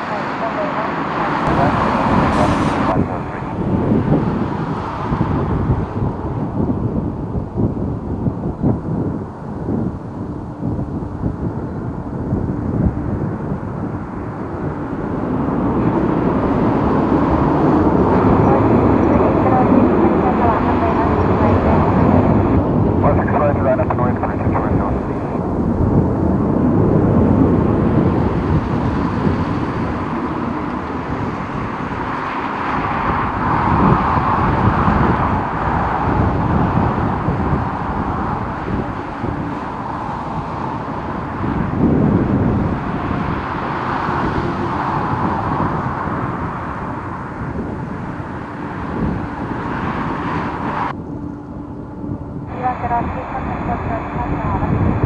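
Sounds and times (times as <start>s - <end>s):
jet engines running: 0.0s - 55.0s
wind buffeting microphone: 0.0s - 55.0s.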